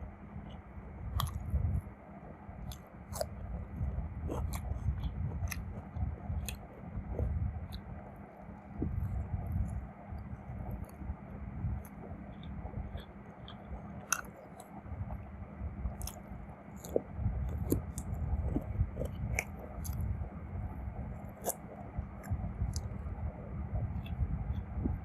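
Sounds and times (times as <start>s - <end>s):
chewing food: 0.4s - 24.8s.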